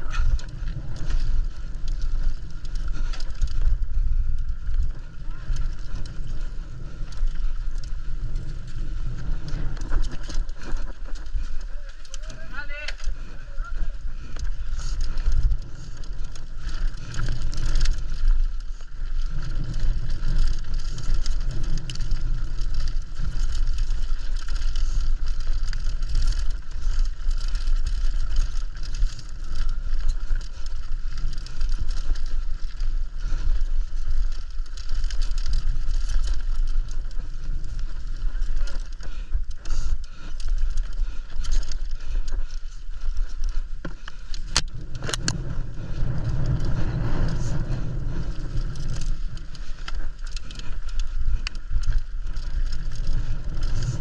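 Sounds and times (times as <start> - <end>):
bike rattling clatter: 0.0 - 54.0
wind rumble on microphone: 0.0 - 54.0.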